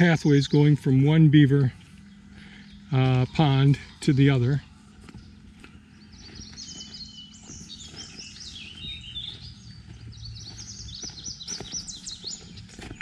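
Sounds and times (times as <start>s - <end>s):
footsteps on dirt track: 0.0s - 13.0s
songbird singing: 0.0s - 13.0s.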